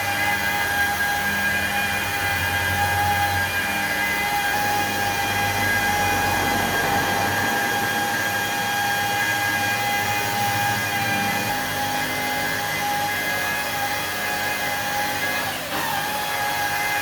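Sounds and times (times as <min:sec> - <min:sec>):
motor-driven tool whining: 0:00.0 - 0:17.0.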